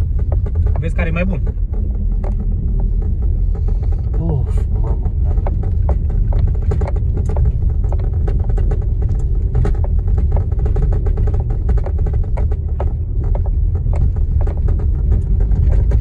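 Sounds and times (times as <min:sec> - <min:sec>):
car cabin low rumble: 0:00.0 - 0:16.0.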